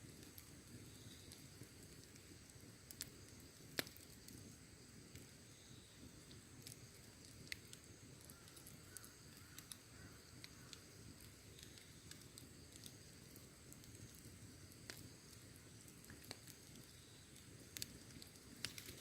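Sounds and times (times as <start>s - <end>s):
fire pops: 0.0s - 19.0s
wood fire crackling: 0.0s - 19.0s.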